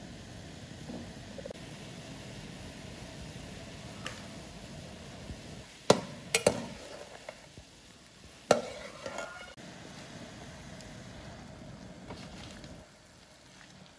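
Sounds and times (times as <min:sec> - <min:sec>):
meat sizzling in oil: 0:00.0 - 0:13.9.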